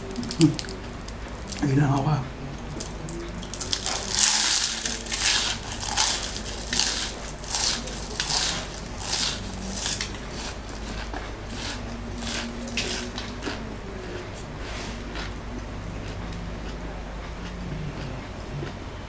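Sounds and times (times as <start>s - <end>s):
crunching and chewing fried food: 0.0s - 19.0s.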